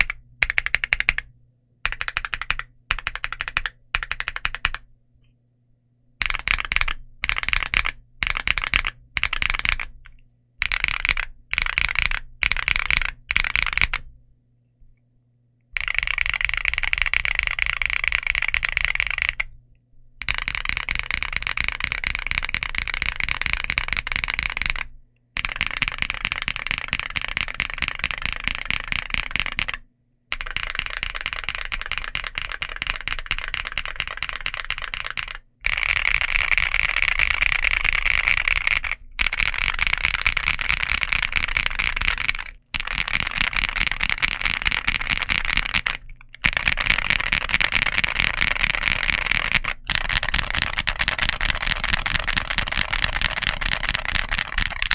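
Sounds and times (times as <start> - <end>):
fast typing on mechanical keyboard: 0.0 - 4.8, 6.2 - 10.0, 10.6 - 14.1, 15.8 - 19.5, 20.2 - 54.9.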